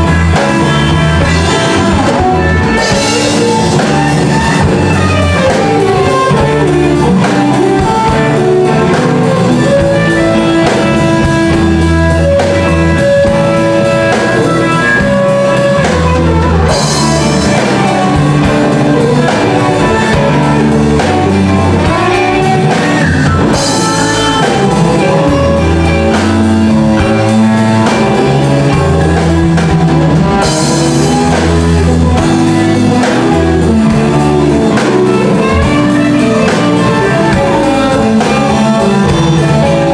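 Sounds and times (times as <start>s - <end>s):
bass guitar: 0.0s - 39.9s
drum kit: 0.0s - 39.9s
electric guitar lead: 0.0s - 39.9s.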